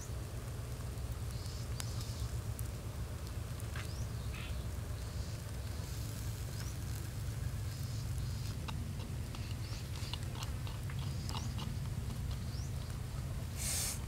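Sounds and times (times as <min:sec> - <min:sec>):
steady low rumble: 0:00.0 - 0:13.7
fat sizzling and crackling: 0:00.0 - 0:14.0.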